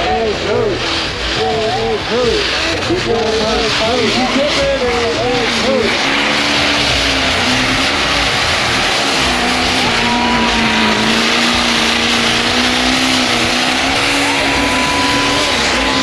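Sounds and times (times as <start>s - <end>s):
engine at high revs: 0.0s - 16.0s.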